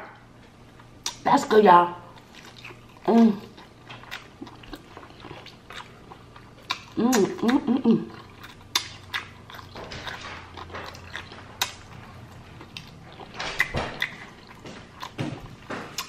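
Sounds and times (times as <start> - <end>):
person chewing food: 0.4 - 1.2, 2.1 - 16.0.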